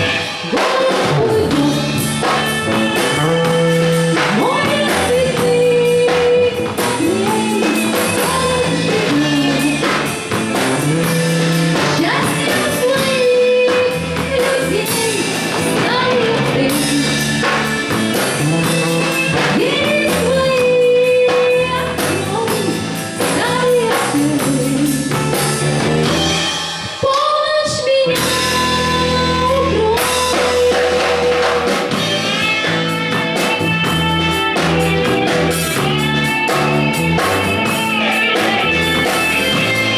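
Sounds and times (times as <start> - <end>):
person singing: 0.0 - 25.4, 26.9 - 32.7, 33.3 - 39.9
bass: 0.0 - 39.9
drum kit: 0.0 - 39.9
guitar: 0.0 - 39.9.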